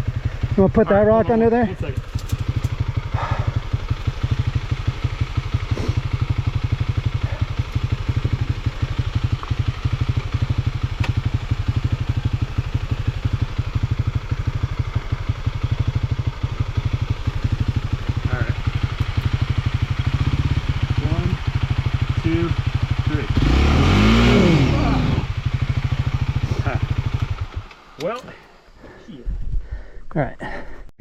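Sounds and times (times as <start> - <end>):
motorcycle engine idling: 0.0 - 29.1.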